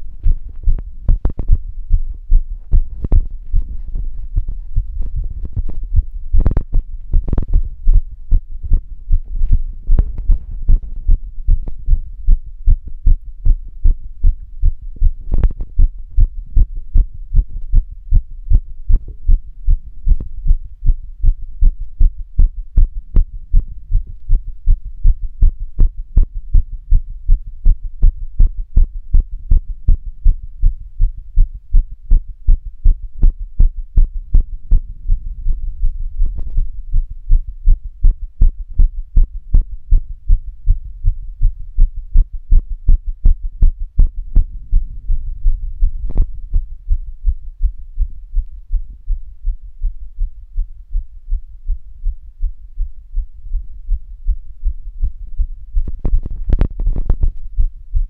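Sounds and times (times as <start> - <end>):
heartbeat thudding pulses: 0.0 - 58.0.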